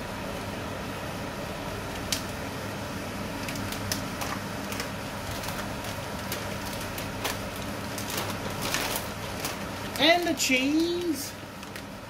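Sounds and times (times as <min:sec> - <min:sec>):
low steady hum: 0:00.0 - 0:12.0
omelette frying in a pan: 0:00.0 - 0:12.0.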